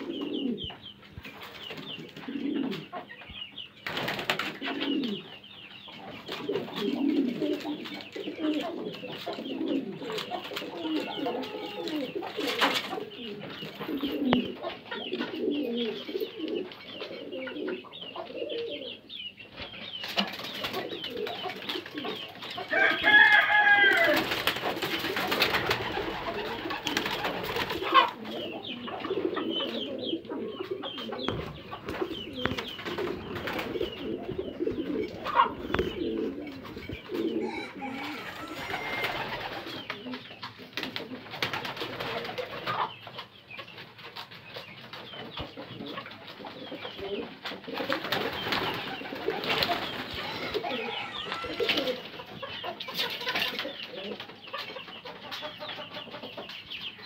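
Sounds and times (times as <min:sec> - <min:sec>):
high-pitched pigeon call: 0:00.0 - 0:43.7, 0:44.6 - 0:57.0
pigeons cooing: 0:00.0 - 0:57.0.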